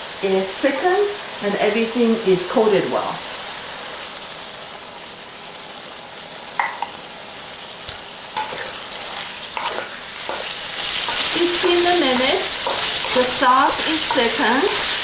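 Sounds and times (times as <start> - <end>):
shrimp sizzling in hot oil: 0.0 - 15.0.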